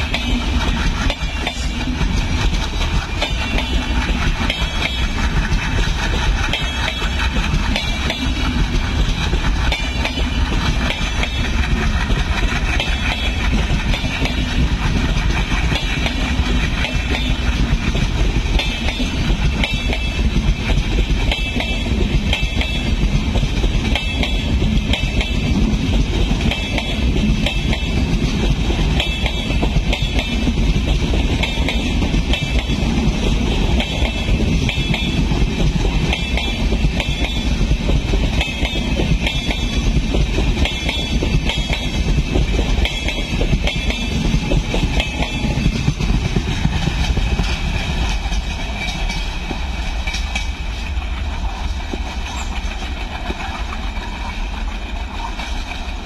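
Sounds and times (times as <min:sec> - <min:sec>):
diesel locomotive engine rumble: 0:00.0 - 0:56.0
train wheels clacking: 0:00.0 - 0:56.0.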